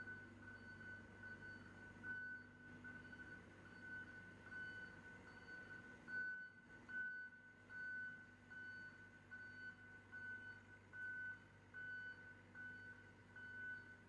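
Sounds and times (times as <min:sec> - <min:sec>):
excavator motion alarm beeping: 0:00.0 - 0:14.0
low steady hum: 0:00.0 - 0:14.0.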